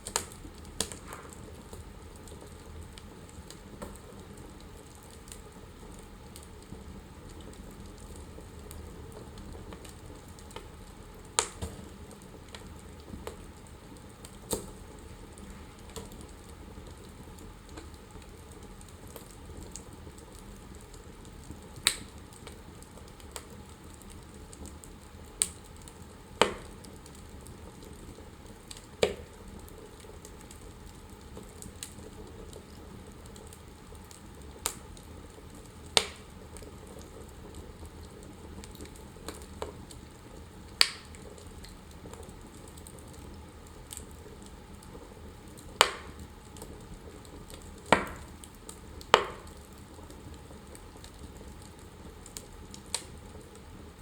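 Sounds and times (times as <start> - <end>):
sharp pops of fire: 0.0 - 6.8, 7.4 - 40.0, 40.8 - 50.3, 50.9 - 53.5
fire crackling and hissing: 0.0 - 54.0.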